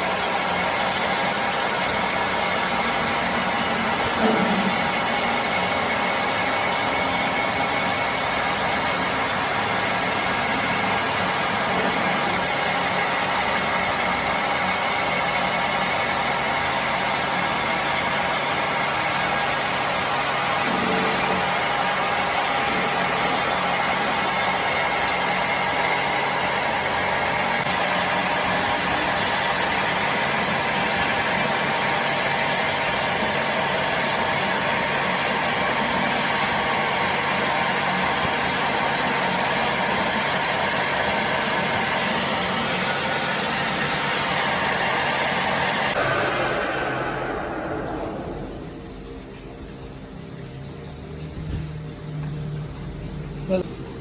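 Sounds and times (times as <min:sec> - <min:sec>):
machine running steadily: 0:00.0 - 0:50.5.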